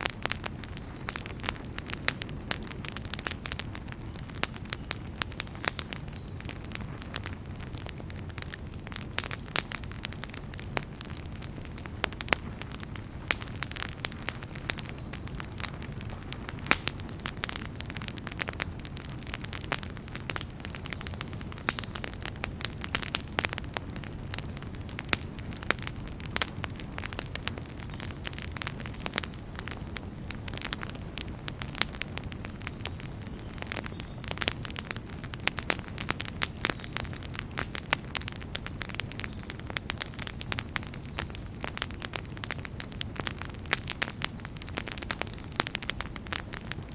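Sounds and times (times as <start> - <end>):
fire crackling: 0.0 - 46.9
low rumble of flames: 0.0 - 46.9.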